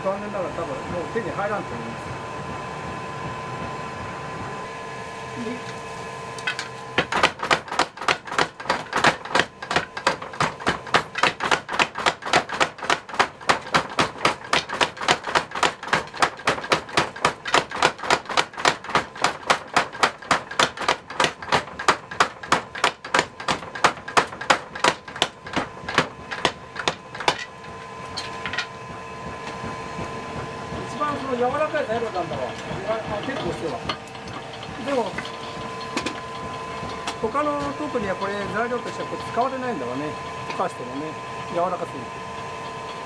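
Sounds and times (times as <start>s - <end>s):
power hammer striking iron: 6.4s - 43.0s.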